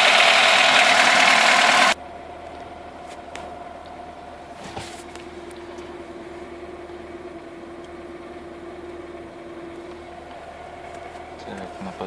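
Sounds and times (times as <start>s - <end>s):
car engine idling: 0.0s - 3.0s, 5.2s - 12.0s.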